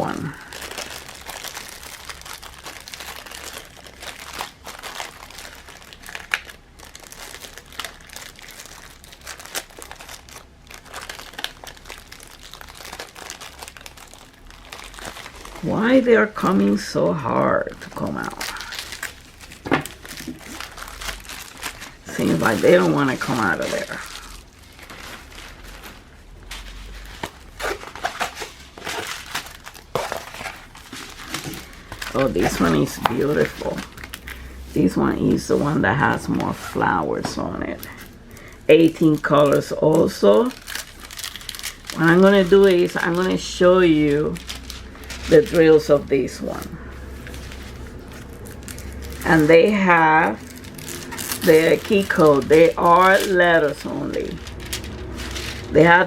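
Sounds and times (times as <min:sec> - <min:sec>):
plastic packaging crinkling: 0:00.0 - 0:56.0.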